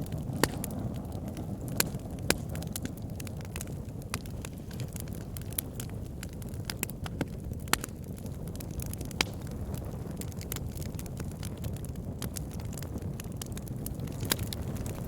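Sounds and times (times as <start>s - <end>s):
burning wood crackling and popping: 0.0s - 15.0s
wood fire rumbling: 0.0s - 15.0s.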